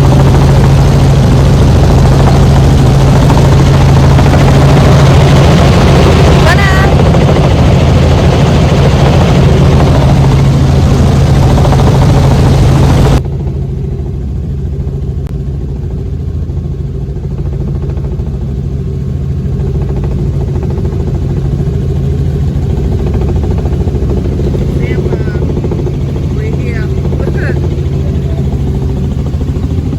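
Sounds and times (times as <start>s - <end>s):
helicopter engine and rotors: 0.0s - 29.9s.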